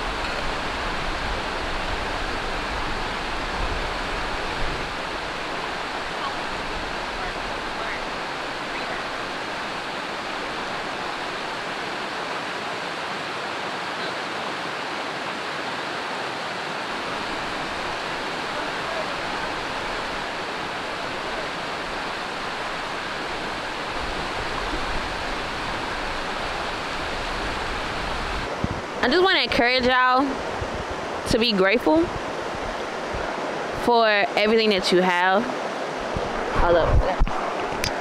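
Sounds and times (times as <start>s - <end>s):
wind on microphone: 0.0s - 12.2s, 16.7s - 35.0s, 35.6s - 38.0s
flowing water rushing: 0.0s - 38.0s.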